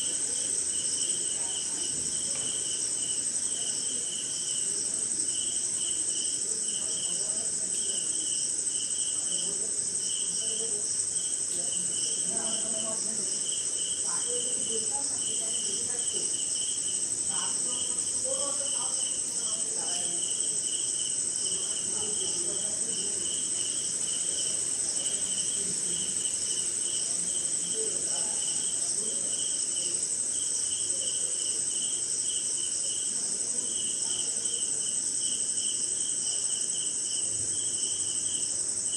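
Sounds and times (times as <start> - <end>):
cricket chirps: 0.0 - 38.9
faint lower insect calls: 0.0 - 38.9
high-pitched insect trill: 0.0 - 38.9.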